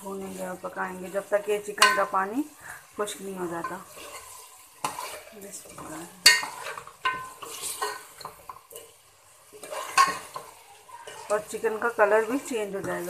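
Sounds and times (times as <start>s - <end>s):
faint sizzle: 0.0s - 13.0s
spoon scraping and clinking pot: 0.2s - 2.3s, 3.5s - 13.0s.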